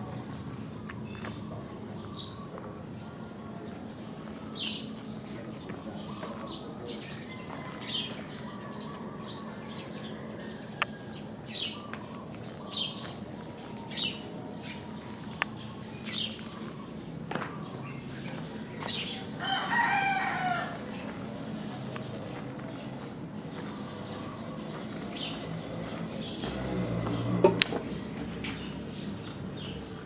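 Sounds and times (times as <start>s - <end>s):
birds chirping: 0.0s - 30.0s
low background noise: 0.0s - 30.0s.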